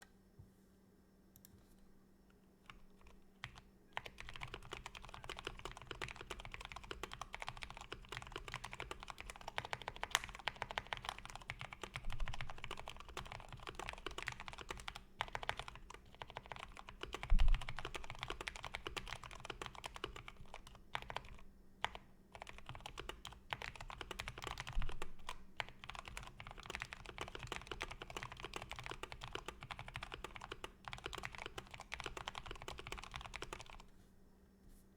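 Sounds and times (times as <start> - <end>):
typing on mechanical keyboard: 2.7 - 33.9.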